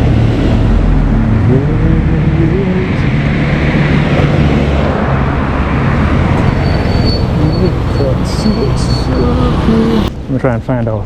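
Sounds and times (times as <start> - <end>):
road noise: 0.0 - 11.0
vehicle engines running: 0.0 - 11.0.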